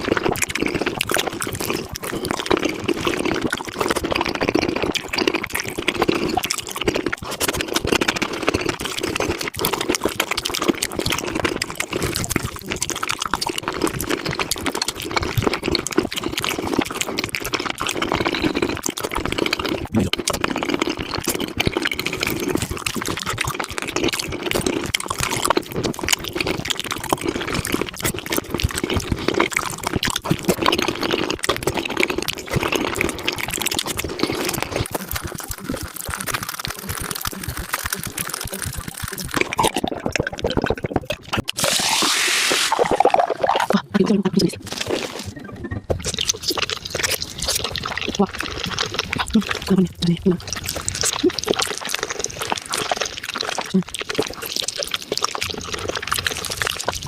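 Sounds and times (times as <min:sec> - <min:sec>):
wet chewing and smacking: 0:00.0 - 0:57.0.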